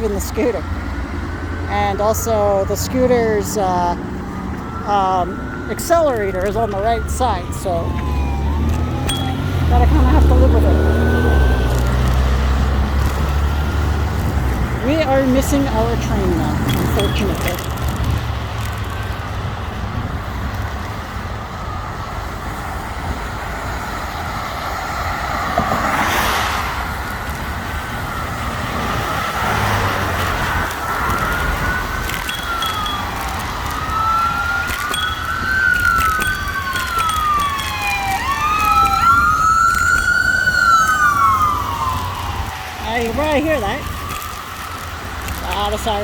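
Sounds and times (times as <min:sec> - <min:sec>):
emergency sirens wailing: 0:00.0 - 0:46.0.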